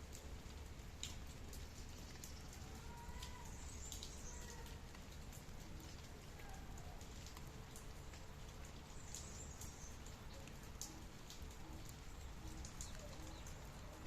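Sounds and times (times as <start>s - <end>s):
rain falling: 0.0s - 14.0s
water drips: 0.0s - 14.0s.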